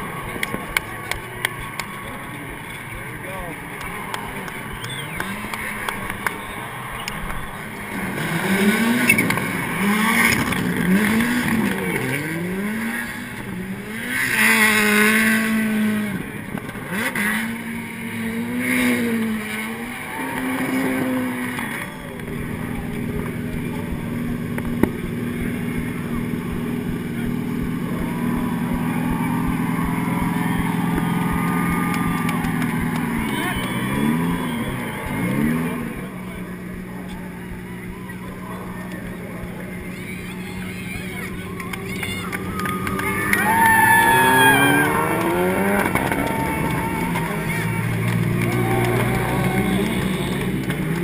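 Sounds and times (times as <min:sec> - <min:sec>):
race car engines revving: 0:00.0 - 0:51.0
race car passing close: 0:00.0 - 0:51.0.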